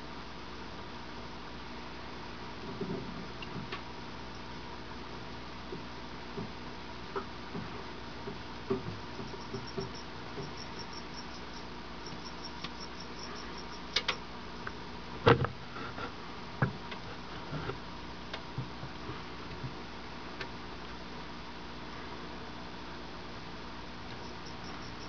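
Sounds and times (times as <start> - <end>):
steady hiss and hum: 0.0 - 25.0.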